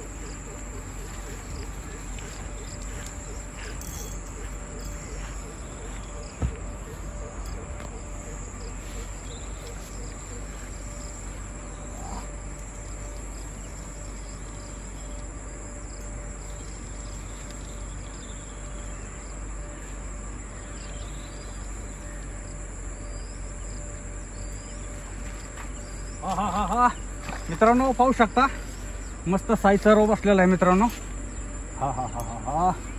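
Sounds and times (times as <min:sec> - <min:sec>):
crickets chirping: 0:00.0 - 0:32.9.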